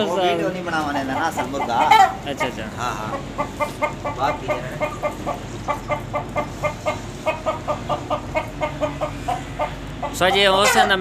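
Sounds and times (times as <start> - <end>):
rooster clucking: 0.0 - 11.0.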